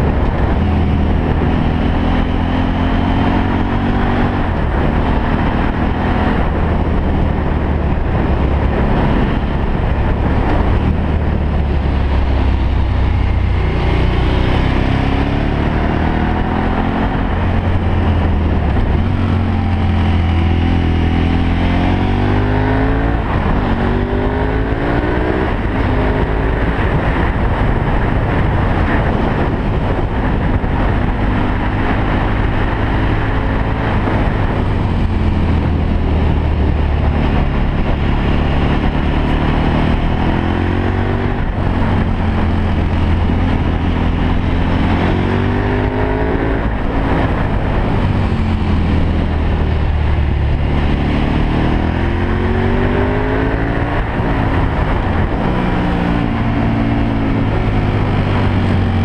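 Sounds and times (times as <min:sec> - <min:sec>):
motorcycle engine accelerating: 0:00.0 - 0:59.0
wind on microphone: 0:00.0 - 0:59.0.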